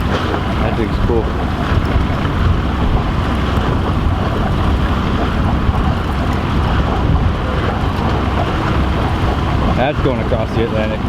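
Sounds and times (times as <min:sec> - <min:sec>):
wind and water hiss: 0:00.0 - 0:11.0
wind buffeting microphone: 0:00.0 - 0:11.0.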